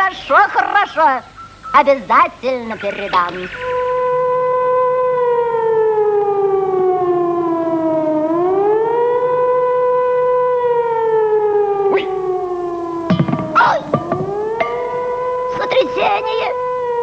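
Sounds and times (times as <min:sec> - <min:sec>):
siren wailing: 0:02.8 - 0:17.0.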